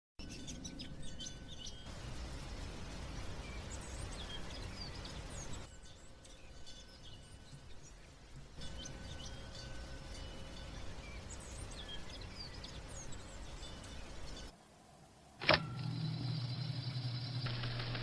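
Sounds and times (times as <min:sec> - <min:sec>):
birds chirping: 0:00.2 - 0:18.0
outdoor ambience hiss: 0:00.2 - 0:18.0.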